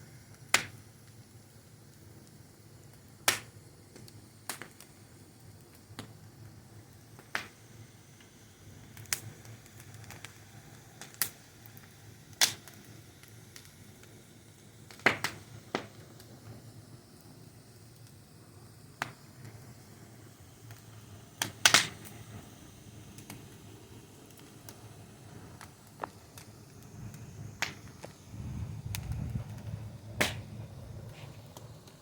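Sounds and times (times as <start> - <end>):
faint steady hiss: 0.0 - 32.0
wood fire crackling: 0.1 - 32.0.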